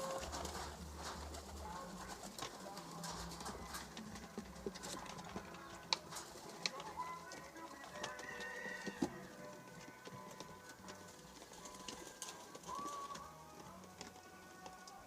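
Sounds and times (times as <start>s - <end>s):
pigeons cooing low: 0.0s - 15.0s.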